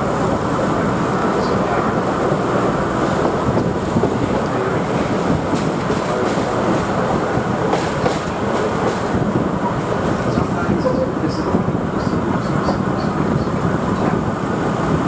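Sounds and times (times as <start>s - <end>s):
railcar rumbling and rattling: 0.0s - 15.0s.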